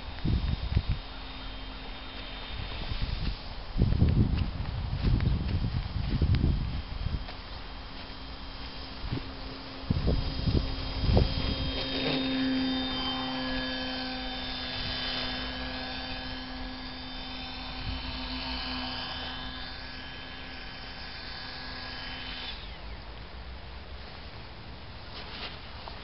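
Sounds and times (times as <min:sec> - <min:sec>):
model plane motor droning: 0:00.0 - 0:26.0.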